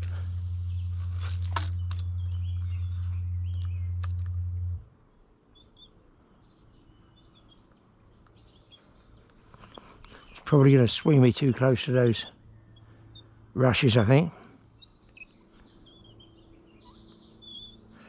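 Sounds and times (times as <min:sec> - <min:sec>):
small birds chirping: 0:00.0 - 0:04.5, 0:05.1 - 0:18.0
low hum: 0:00.0 - 0:18.0.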